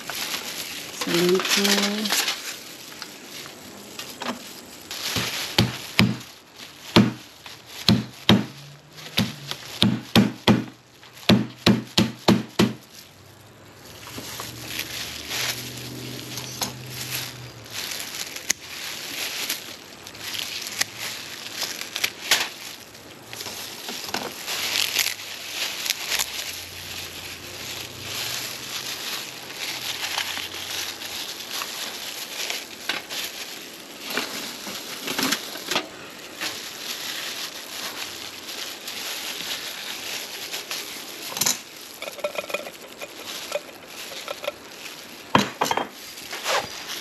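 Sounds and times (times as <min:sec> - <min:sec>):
rustling and handling sounds: 0:00.0 - 0:47.0.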